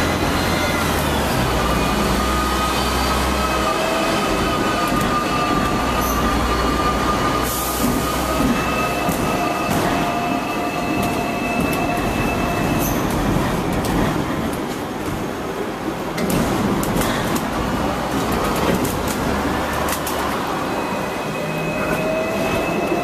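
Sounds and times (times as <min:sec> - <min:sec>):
tram wheels squealing: 0:00.0 - 0:13.7, 0:18.1 - 0:23.0
tram car rumble: 0:00.0 - 0:23.0.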